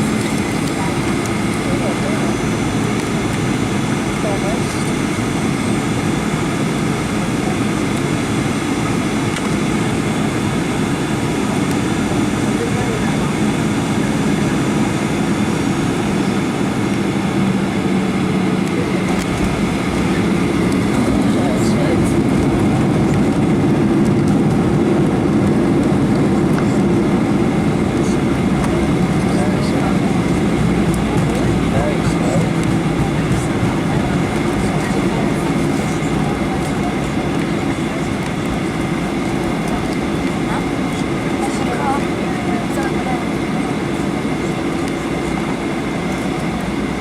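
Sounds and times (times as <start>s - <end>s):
jet engine and airflow in cabin: 0.0s - 47.0s.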